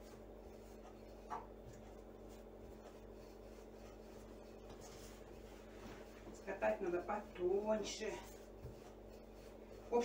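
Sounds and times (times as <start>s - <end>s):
rolling pin rubbing on dough: 0.0s - 10.0s
steady low hum: 0.0s - 10.0s.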